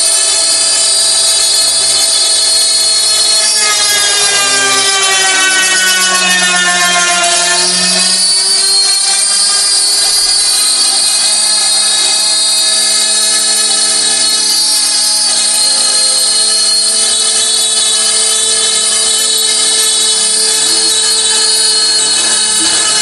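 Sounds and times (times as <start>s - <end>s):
router spindle high-pitched whine: 0.0s - 23.0s.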